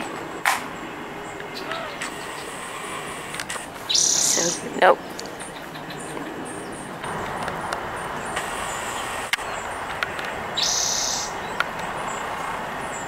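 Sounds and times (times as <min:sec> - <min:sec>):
songbirds chirping: 0:00.0 - 0:13.0
steady background hiss: 0:00.0 - 0:13.0.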